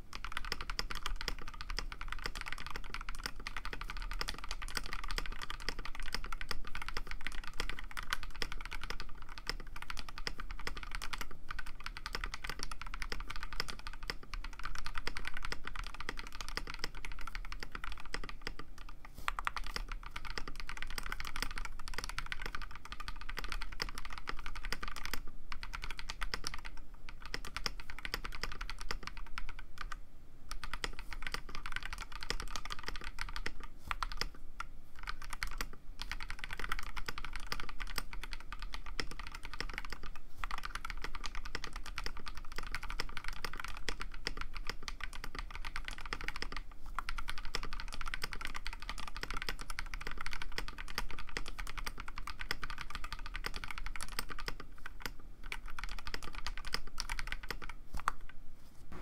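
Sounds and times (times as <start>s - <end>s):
fast mechanical keyboard typing: 0.1s - 34.4s, 35.0s - 58.3s.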